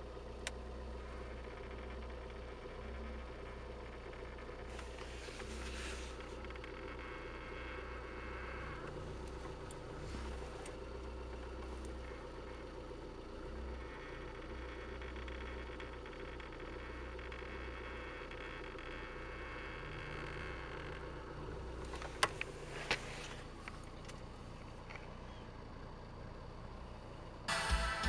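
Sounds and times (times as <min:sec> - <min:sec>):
car engine heard from cabin: 0:00.0 - 0:28.0.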